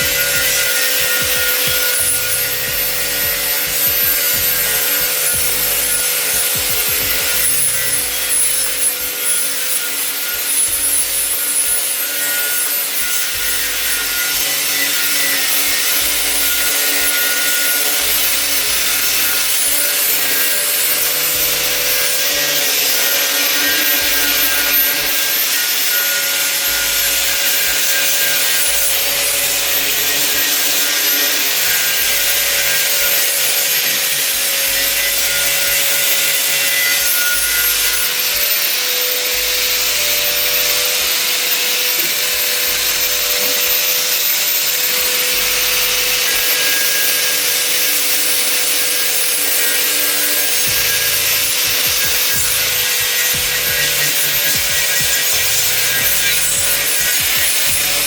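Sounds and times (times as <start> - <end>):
power tool grinding metal: 0.0 - 58.0.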